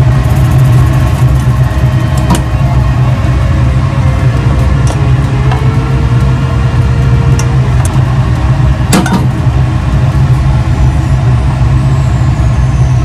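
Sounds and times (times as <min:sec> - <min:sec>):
loud low appliance rumble: 0:00.0 - 0:13.0.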